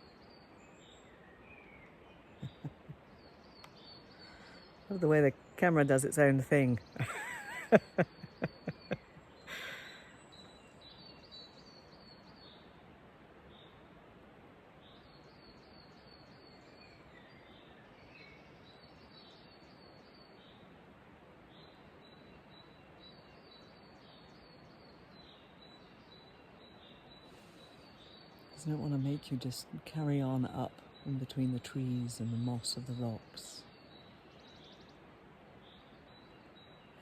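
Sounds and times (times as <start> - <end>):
songbird singing: 0.0 - 37.0
steady background hiss: 0.0 - 37.0.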